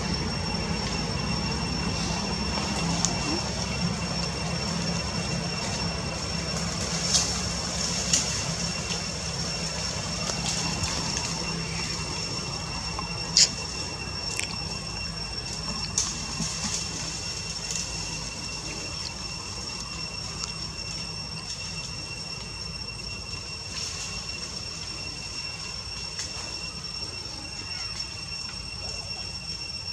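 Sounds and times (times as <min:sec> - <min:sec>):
high-pitched whine: 0:00.0 - 0:29.9
low steady rumble: 0:00.0 - 0:29.9.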